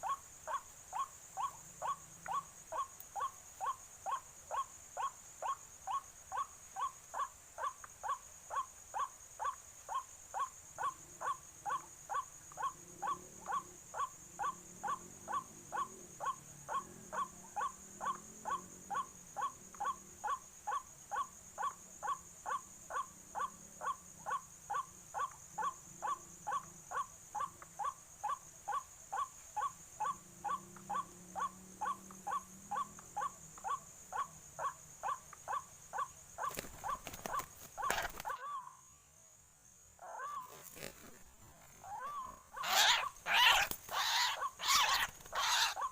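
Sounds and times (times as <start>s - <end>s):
recorded waterhen call: 0.0s - 38.8s, 41.8s - 45.9s.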